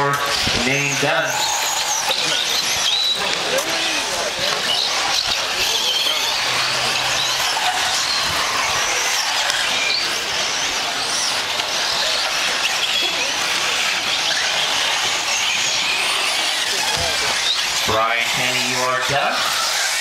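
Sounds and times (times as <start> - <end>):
rc car engines whining: 0.0 - 20.0.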